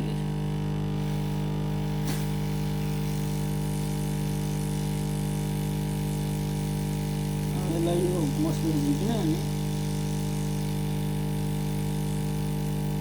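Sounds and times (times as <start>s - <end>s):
hot air station electric buzz: 0.0s - 13.0s.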